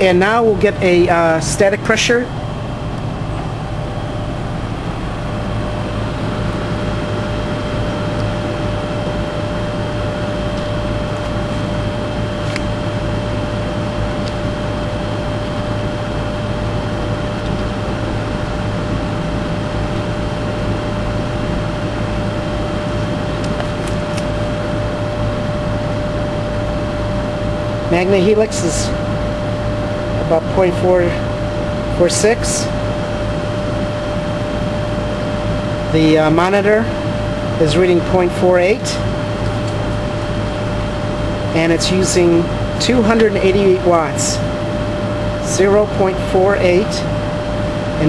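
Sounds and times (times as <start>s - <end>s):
furnace blower running: 0.0s - 48.0s.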